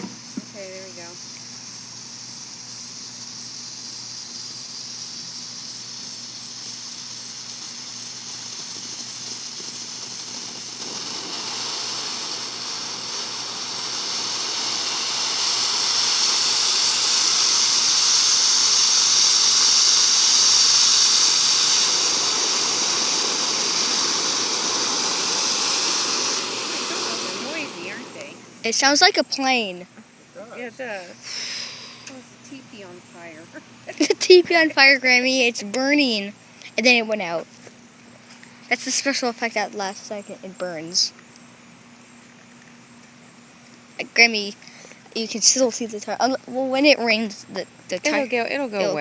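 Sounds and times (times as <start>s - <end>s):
firework fountain hissing: 0.0s - 49.0s.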